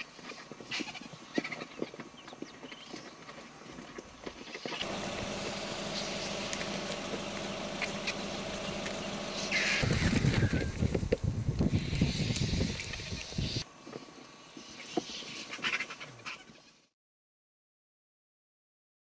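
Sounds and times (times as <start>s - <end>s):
open-air ambience hiss: 0.0s - 16.9s.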